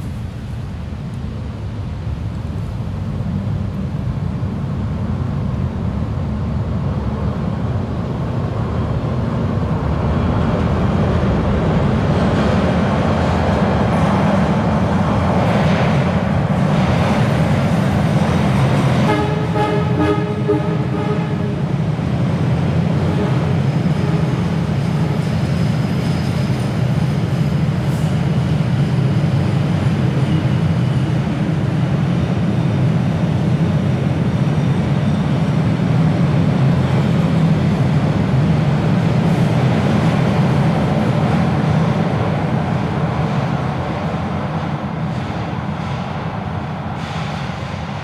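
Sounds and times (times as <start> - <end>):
subway train rumbling on rails: 0.0 - 48.0.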